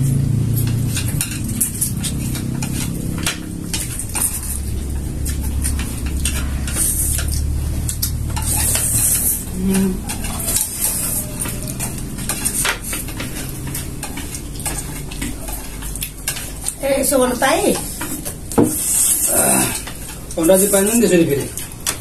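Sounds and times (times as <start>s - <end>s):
chopsticks clicking on plates: 0.2s - 22.0s
people slurping noodles: 1.6s - 16.2s, 17.8s - 21.6s.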